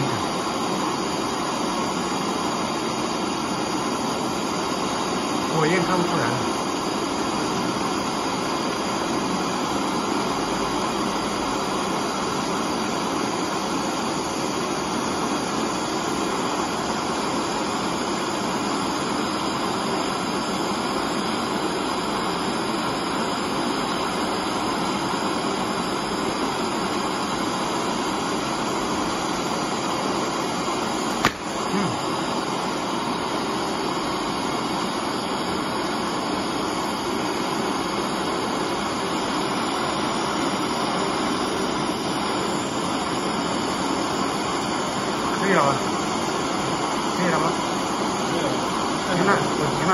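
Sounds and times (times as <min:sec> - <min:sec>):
gas torch flame hissing: 0:00.0 - 0:49.9.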